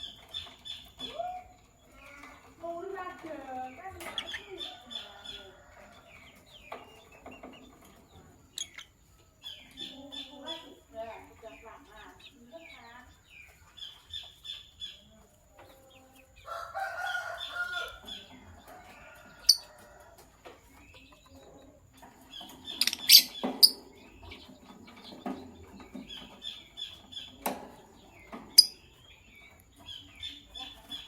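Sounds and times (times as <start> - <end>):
lovebirds chirping: 0.0 - 31.0.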